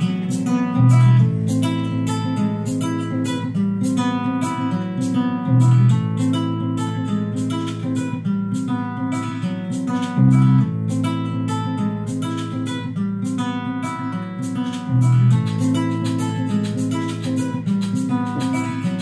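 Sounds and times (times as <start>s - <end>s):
acoustic guitar music through speaker: 0.0s - 19.0s.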